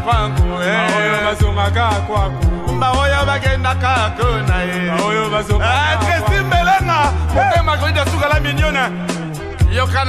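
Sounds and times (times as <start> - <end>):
song with vocals and drums: 0.0 - 10.0.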